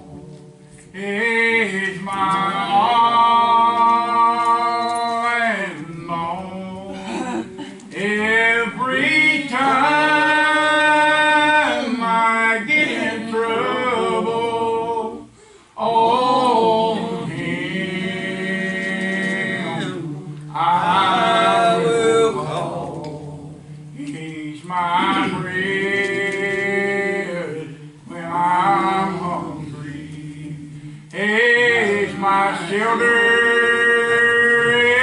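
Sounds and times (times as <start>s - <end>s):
gospel singing: 0.0s - 35.0s.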